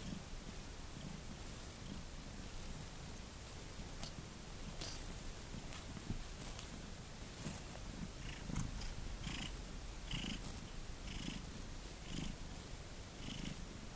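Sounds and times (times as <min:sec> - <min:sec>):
cat purring: 0:00.0 - 0:13.9.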